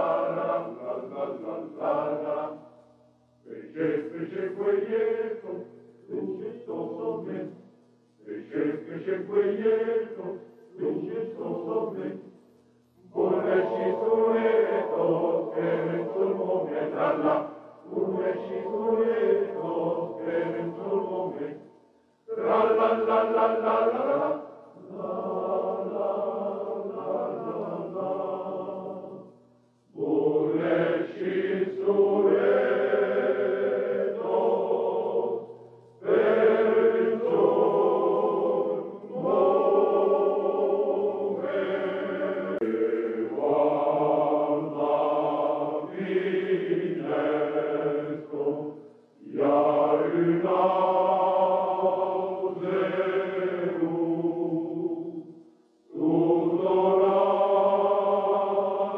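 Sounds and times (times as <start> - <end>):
choir singing: 0.0 - 2.8, 3.4 - 58.9.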